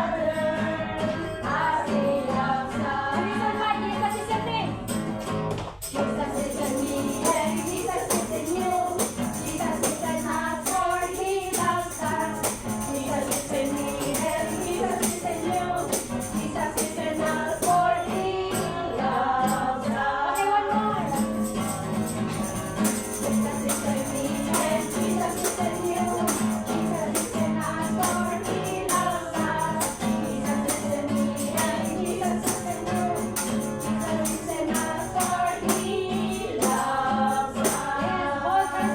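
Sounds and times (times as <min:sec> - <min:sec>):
congregation singing: 0:00.0 - 0:03.8, 0:06.0 - 0:38.9
rhythmic tambourine: 0:00.0 - 0:38.9.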